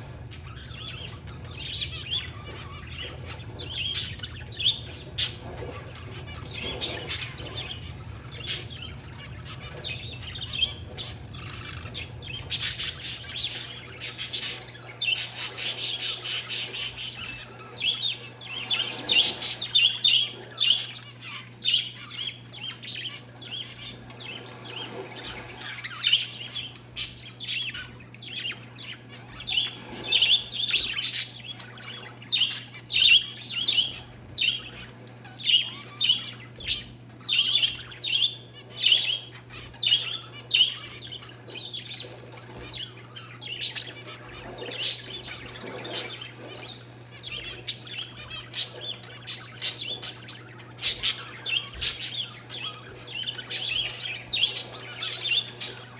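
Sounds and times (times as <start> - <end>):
birds chirping: 0.0 - 55.9
steady low hum: 0.0 - 55.9.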